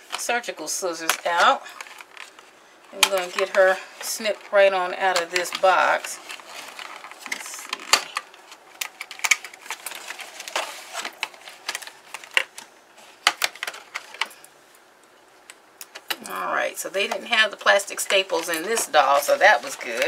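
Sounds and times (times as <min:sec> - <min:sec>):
cardboard and plastic rustling: 0:01.0 - 0:14.5, 0:17.0 - 0:20.0.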